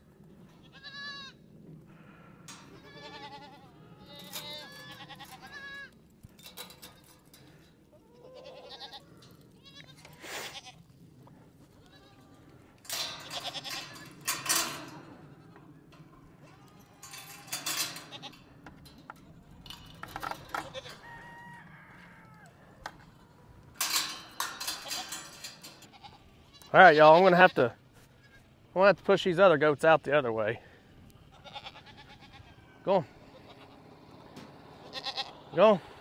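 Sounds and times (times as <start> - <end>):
goats bleating: 0.4 - 1.4, 2.6 - 6.0, 6.8 - 11.0, 11.6 - 23.5, 24.6 - 28.7, 30.6 - 36.0.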